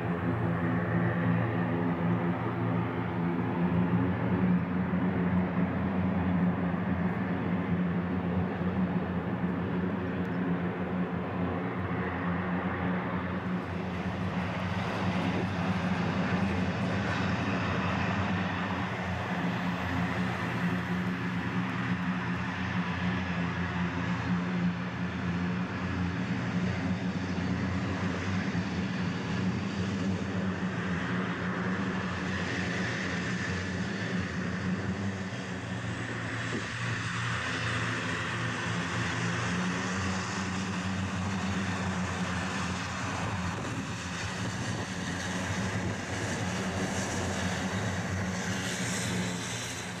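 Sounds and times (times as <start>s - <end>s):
jet engines idling: 0.0s - 50.0s.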